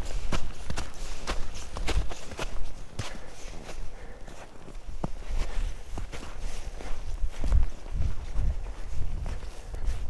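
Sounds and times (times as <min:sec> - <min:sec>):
footsteps on forest trail: 0:00.0 - 0:10.0.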